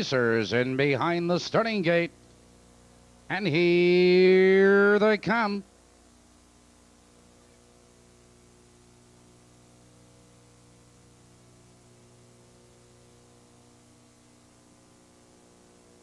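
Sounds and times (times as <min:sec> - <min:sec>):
faint electrical hum with hiss: 0:00.0 - 0:16.0.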